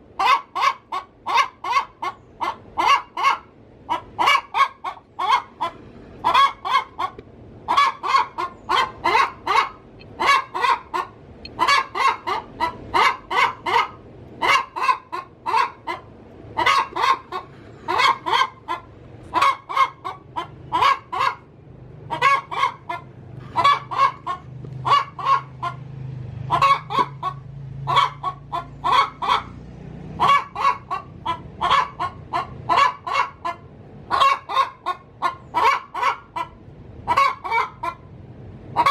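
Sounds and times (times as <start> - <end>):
hen cackling: 0.0 - 38.9.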